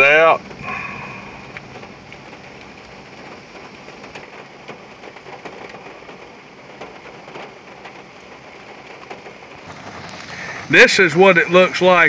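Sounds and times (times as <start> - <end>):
heavy rain hissing: 0.0 - 12.0
sharp raindrop strikes: 0.0 - 12.0.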